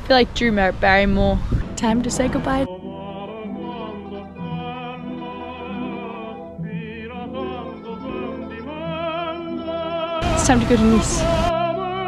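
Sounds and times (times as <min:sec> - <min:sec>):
orchestral accompaniment: 0:01.6 - 0:12.0
operatic voice singing: 0:01.8 - 0:12.0.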